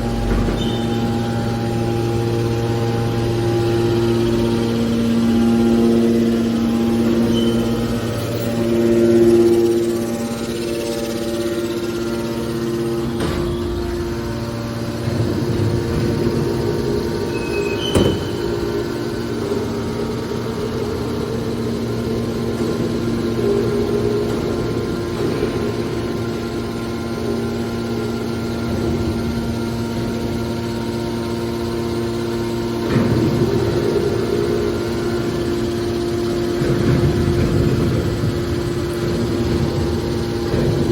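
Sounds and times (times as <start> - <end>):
grinding noise: 0.0 - 40.9
hydraulic baler pump humming: 0.0 - 40.9.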